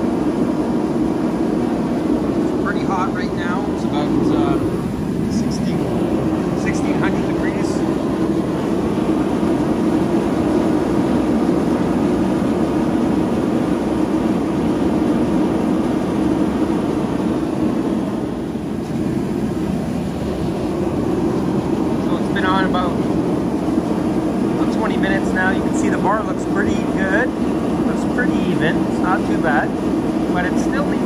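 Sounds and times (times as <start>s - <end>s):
gas forge rushing noise: 0.0s - 31.0s.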